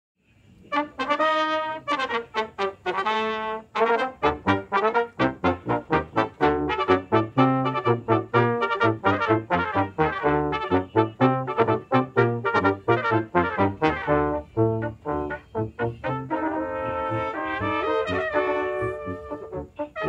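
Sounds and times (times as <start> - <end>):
brass quintet playing a march: 0.7 - 20.0.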